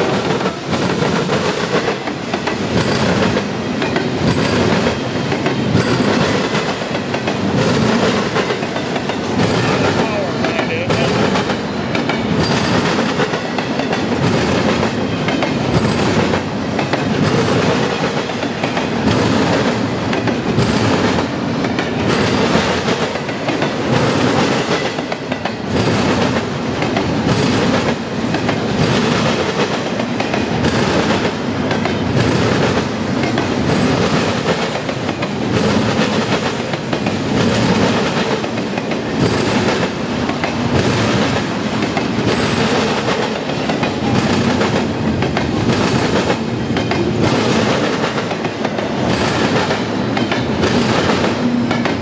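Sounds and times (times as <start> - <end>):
train wheels rumbling and rattling: 0.0 - 52.0.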